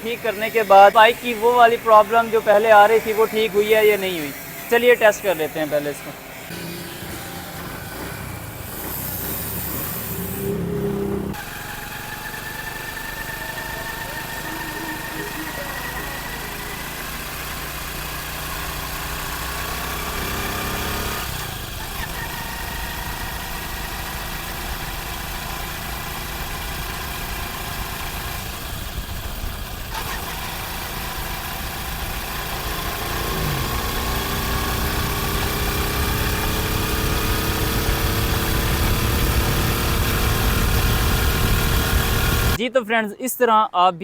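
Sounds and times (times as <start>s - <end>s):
motorcycle engine revving: 0.0s - 42.6s.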